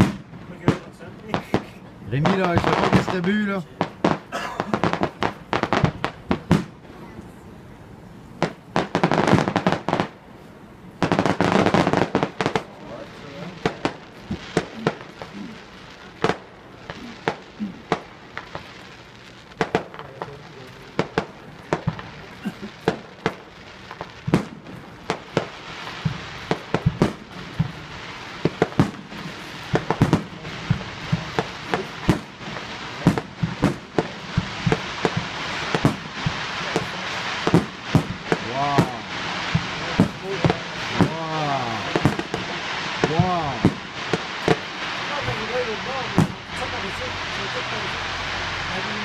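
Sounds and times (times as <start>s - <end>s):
fireworks bangs: 0.0s - 49.0s
fireworks crackling: 0.0s - 49.0s.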